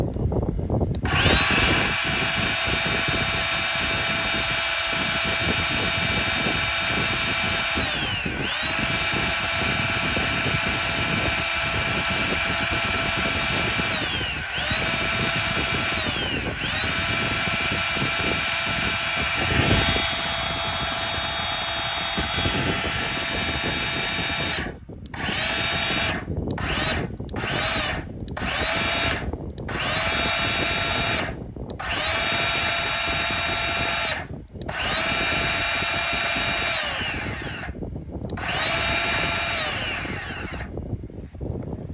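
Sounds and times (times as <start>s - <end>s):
power saw motor whine: 0.9s - 40.8s.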